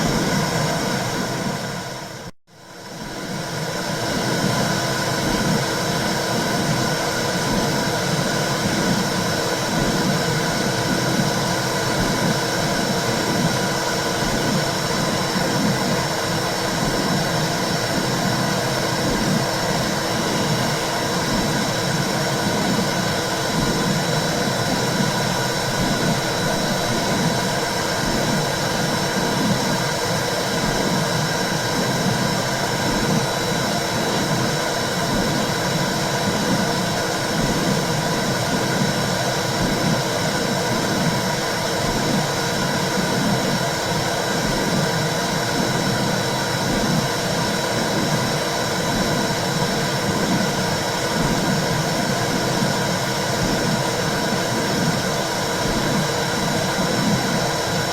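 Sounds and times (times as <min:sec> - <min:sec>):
heartbeat-like pulse: 0:03.0 - 0:57.9.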